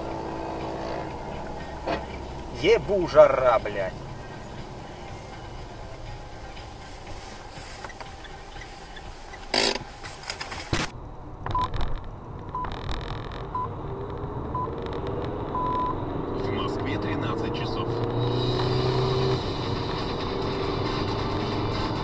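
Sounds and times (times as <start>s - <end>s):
car rumbling on road: 0.0s - 22.0s.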